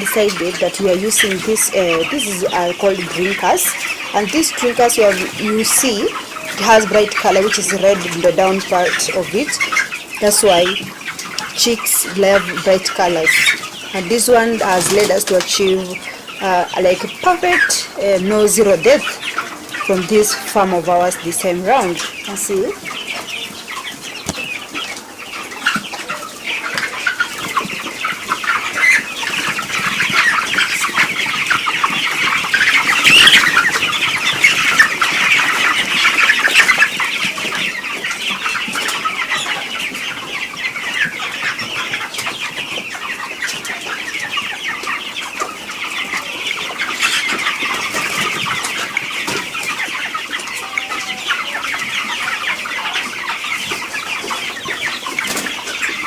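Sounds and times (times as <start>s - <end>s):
chickens cheeping and clucking: 0.0s - 56.0s.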